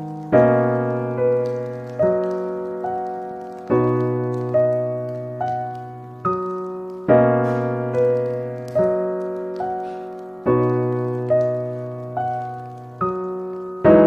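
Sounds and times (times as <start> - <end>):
gentle solo piano: 0.0 - 14.0.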